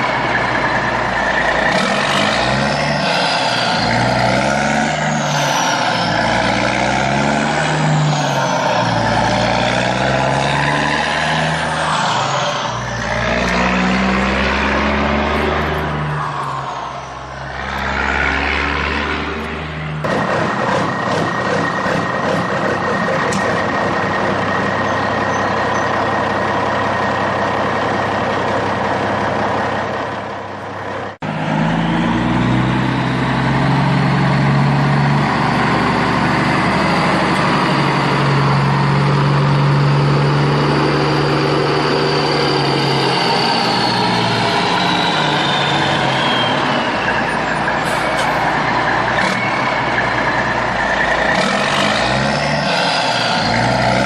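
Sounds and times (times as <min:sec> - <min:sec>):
heavy vehicle engine running: 0:00.0 - 0:54.0.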